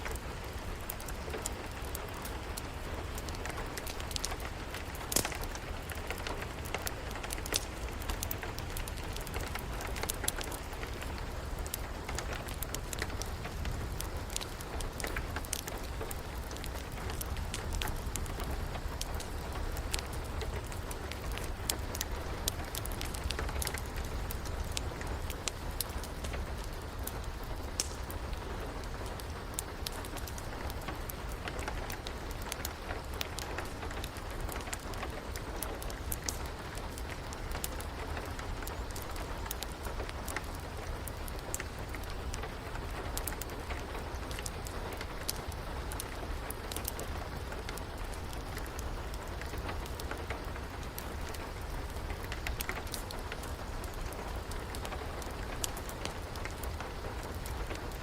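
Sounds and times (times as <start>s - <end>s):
rain hiss: 0.0s - 58.0s
wood fire crackling: 0.0s - 58.0s.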